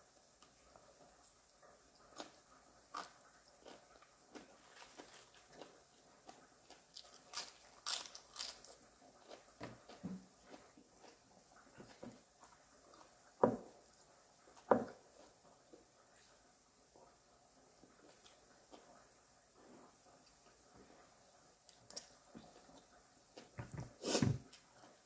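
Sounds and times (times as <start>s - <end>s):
chewing and crunching food: 0.4s - 25.0s.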